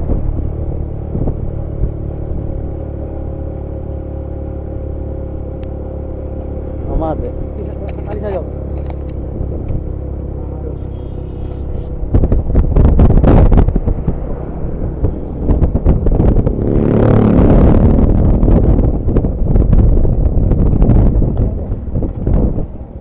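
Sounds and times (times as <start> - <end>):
bus diesel engine rough exhaust: 0.0 - 23.0.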